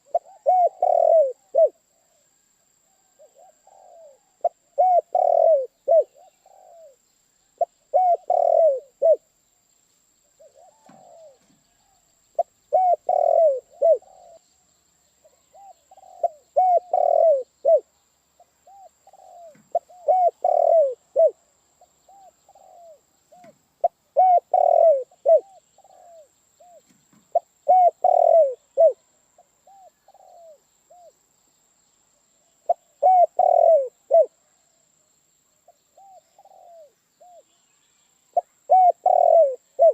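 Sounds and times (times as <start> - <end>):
dove cooing: 0.0 - 2.2, 3.1 - 7.0, 7.6 - 9.3, 10.4 - 14.4, 15.2 - 21.4, 22.0 - 31.1, 32.6 - 34.4, 36.0 - 37.5, 38.3 - 39.9.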